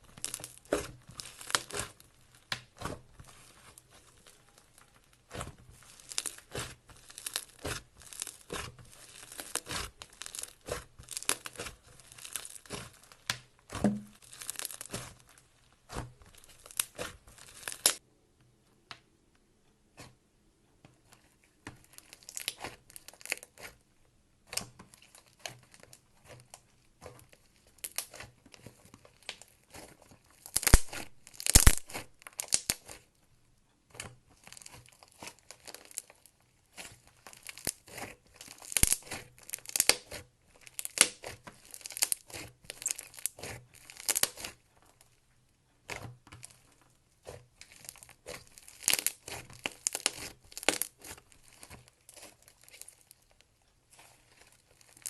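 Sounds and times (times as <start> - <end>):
slime kneaded by hand crackling: 0.0 - 18.0, 21.0 - 55.0.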